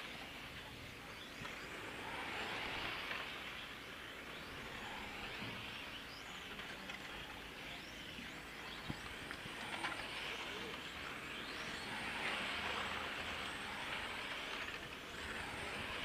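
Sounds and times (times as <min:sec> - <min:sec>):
electric motors whining: 0:00.0 - 0:16.0
tyres hissing on asphalt: 0:00.0 - 0:16.0.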